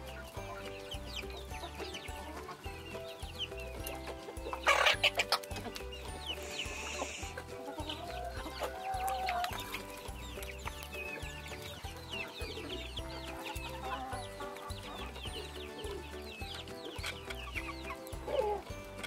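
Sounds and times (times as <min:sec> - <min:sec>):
background music with steady beat: 0:00.0 - 0:19.0
chicks peeping: 0:00.0 - 0:19.0
hens clucking: 0:00.0 - 0:19.0.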